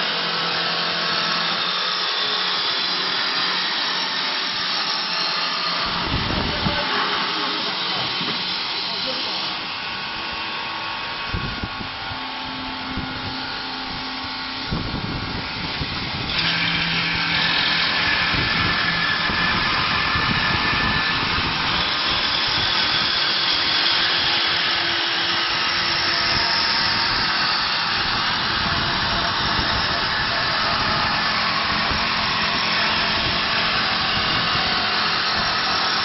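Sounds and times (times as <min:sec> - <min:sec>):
wood lathe cutting wood: 0:00.0 - 0:36.0.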